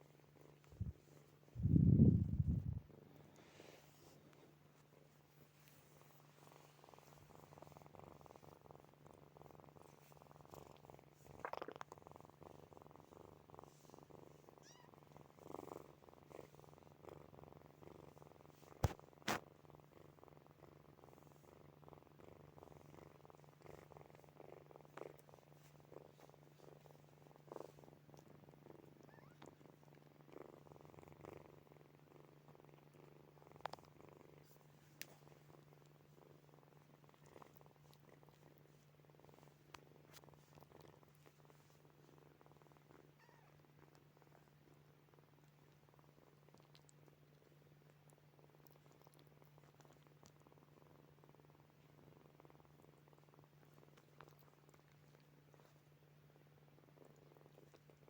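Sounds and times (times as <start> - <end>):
kittens purring: 0.0 - 58.0.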